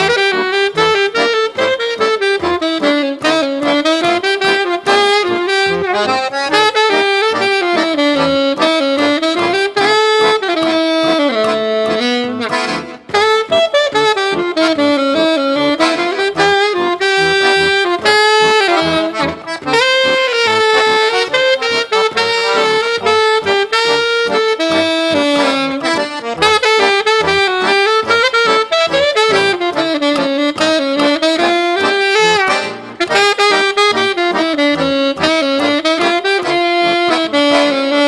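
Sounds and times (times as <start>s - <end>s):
accordion accompaniment: 0.0s - 38.0s
alto saxophone jazz melody: 0.0s - 38.0s.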